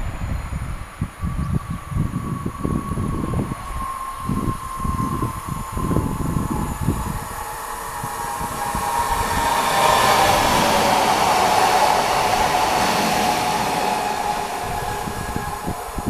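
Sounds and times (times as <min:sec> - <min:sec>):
train traction drive whine: 0:00.0 - 0:16.0
train wheels rushing on rails: 0:00.0 - 0:16.0.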